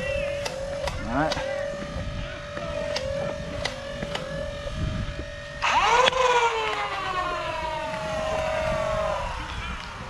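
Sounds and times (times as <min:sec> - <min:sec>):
toy blaster motors humming: 0:00.0 - 0:10.0.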